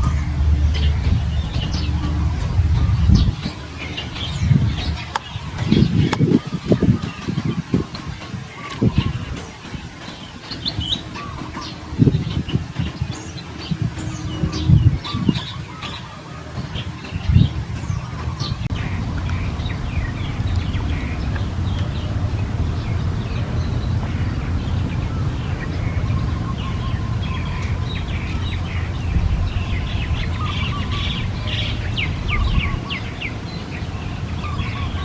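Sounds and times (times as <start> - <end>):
birds chirping: 0.0 - 35.0
low background rumble: 0.0 - 35.0.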